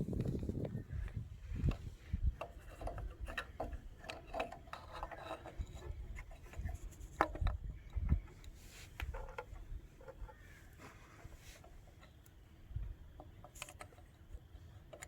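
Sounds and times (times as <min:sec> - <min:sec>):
light clicks and knocks: 0:00.2 - 0:15.0.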